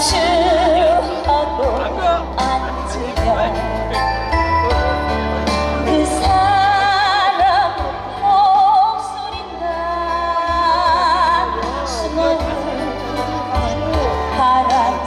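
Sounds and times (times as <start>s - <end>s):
woman singing a ballad: 0.0s - 3.7s, 5.8s - 15.0s
backing track with bass line: 0.0s - 15.0s.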